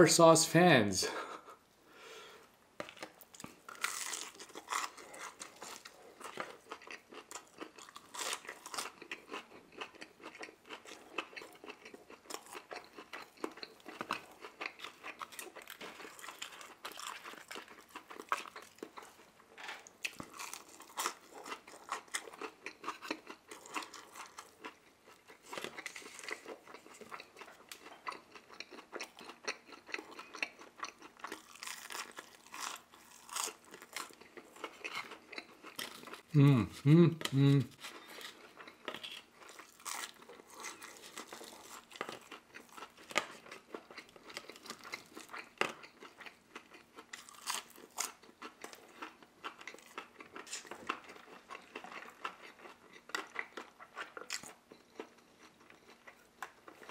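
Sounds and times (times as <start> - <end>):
chewing and crunching fried food: 2.2 - 56.9.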